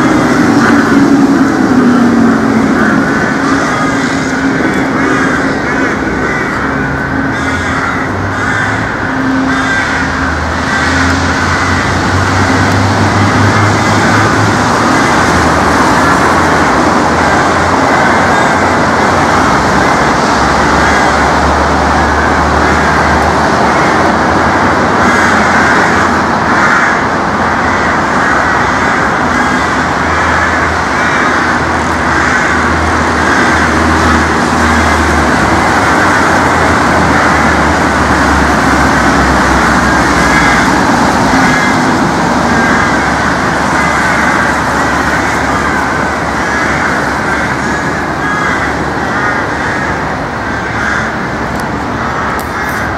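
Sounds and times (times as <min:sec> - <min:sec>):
road traffic noise: 0:00.0 - 0:52.9.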